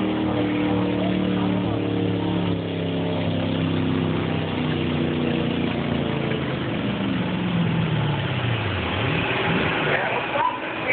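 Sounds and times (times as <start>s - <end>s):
truck engine running: 0.0s - 10.9s.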